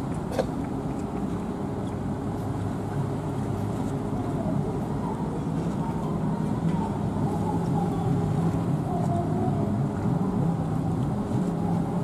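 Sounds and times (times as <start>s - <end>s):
tug engines rumbling: 0.0s - 12.0s.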